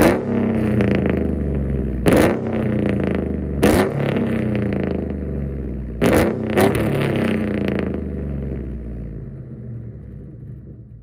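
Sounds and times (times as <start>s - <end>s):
loud exhaust surges: 0.0s - 11.0s.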